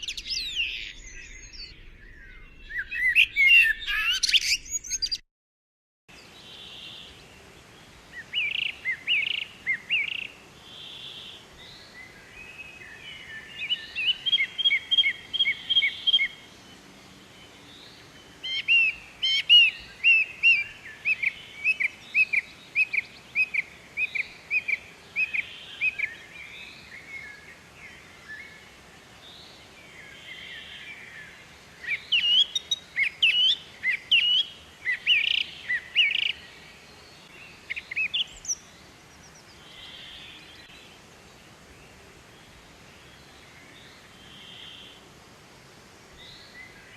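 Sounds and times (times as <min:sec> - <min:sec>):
small birds chirping: 0:00.0 - 0:05.2, 0:06.1 - 0:46.9.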